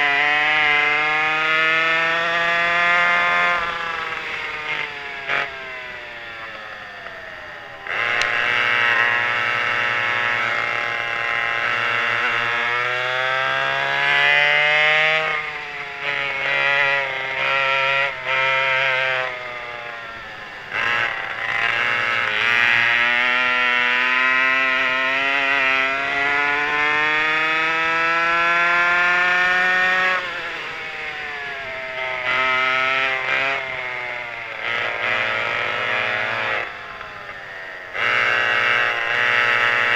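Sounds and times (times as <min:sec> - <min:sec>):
two-stroke kart engines revving: 0:00.0 - 0:39.9.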